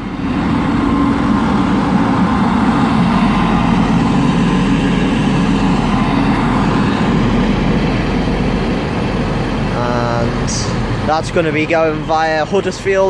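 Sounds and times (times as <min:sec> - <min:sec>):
train diesel engines rumbling: 0:00.0 - 0:13.0.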